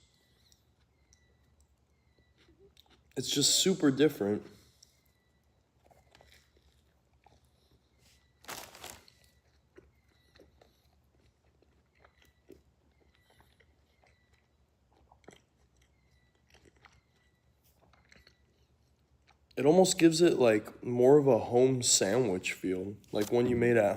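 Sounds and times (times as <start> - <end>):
chewing sandwich: 0.0 - 20.1
bite crunch: 0.2 - 20.1.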